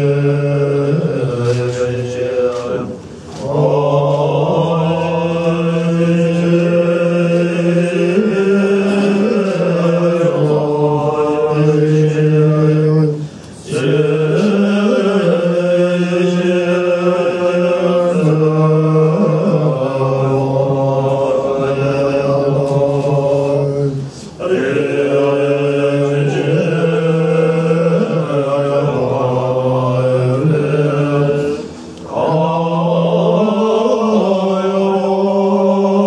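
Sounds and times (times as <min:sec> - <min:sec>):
men chanting low notes: 0:00.0 - 0:36.0.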